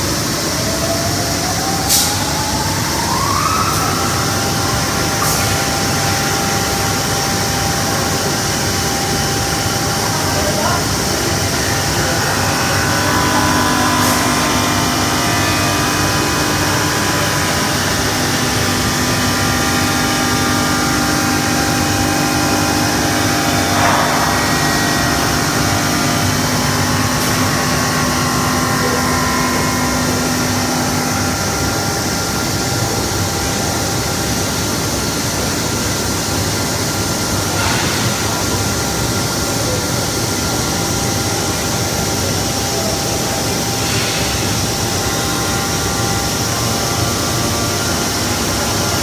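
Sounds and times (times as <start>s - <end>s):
glass-cutting machine whining: 0.0s - 49.0s.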